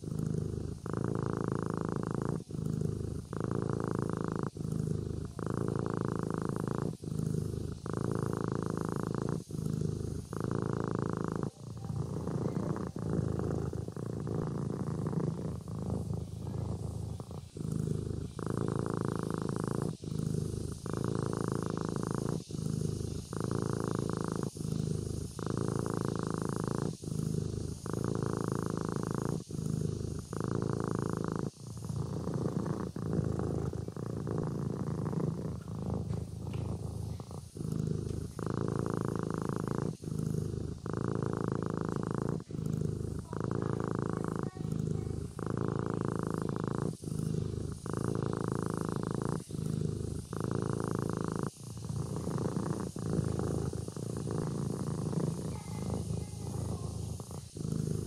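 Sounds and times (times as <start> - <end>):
kitten purring: 0.0 - 58.0.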